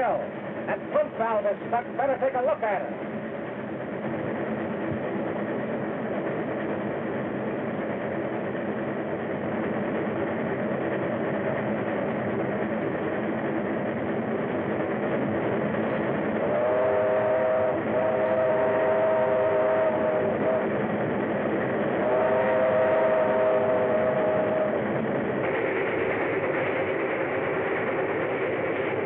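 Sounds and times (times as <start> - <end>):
steam locomotive rumble: 0.0 - 29.0.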